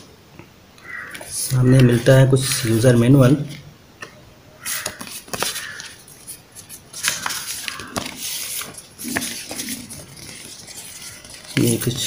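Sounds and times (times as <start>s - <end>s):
paper leaflets rustling: 1.1s - 3.6s, 4.6s - 12.0s.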